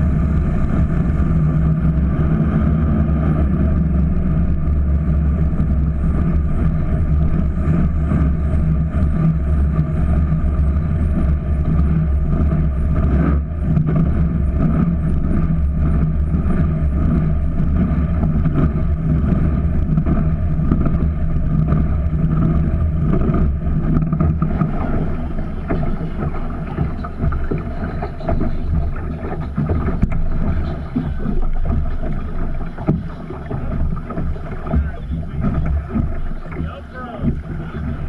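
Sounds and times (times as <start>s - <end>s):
boat engine running: 0.0s - 38.0s
water wash: 0.0s - 38.0s
wind on microphone: 0.0s - 38.0s.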